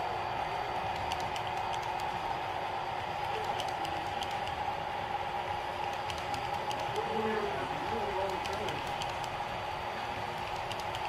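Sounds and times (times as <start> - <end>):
model train wheels clicking on rails: 0.0 - 11.0
steady hum: 0.0 - 11.0.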